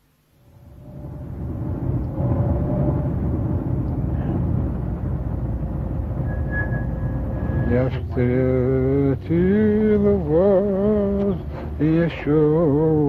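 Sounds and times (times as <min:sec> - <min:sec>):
car engine and road rumble: 0:00.1 - 0:13.0.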